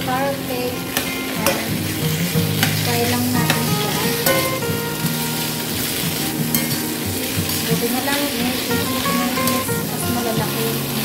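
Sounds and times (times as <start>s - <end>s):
vegetables sizzling in wok: 0.0s - 11.0s.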